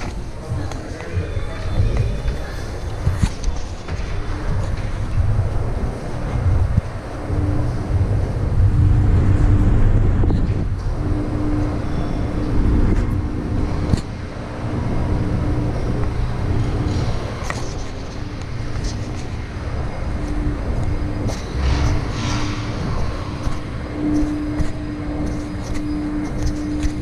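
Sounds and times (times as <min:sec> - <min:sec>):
faint hum: 0:00.0 - 0:27.0
low rumble of road traffic: 0:00.0 - 0:27.0.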